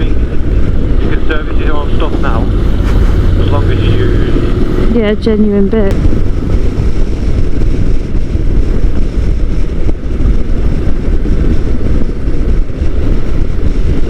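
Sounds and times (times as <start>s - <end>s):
motorcycle running: 0.0s - 14.0s
wind rumbling on microphone: 0.0s - 14.0s.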